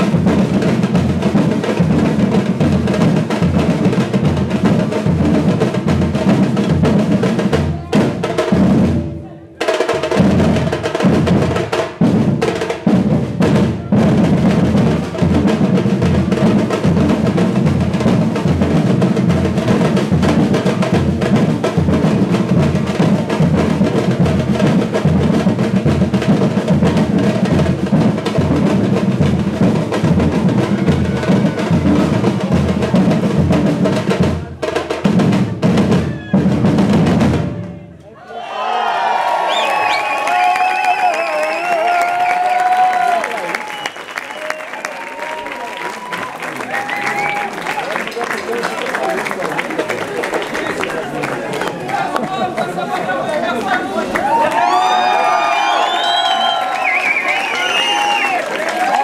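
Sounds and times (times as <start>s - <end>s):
percussion ensemble playing: 0.0s - 37.9s, 41.6s - 55.6s, 56.5s - 59.0s.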